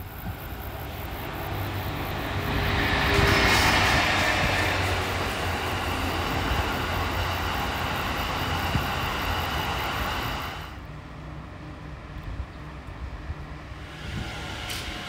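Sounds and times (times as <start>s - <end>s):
train rolling on rails: 0.0s - 15.0s.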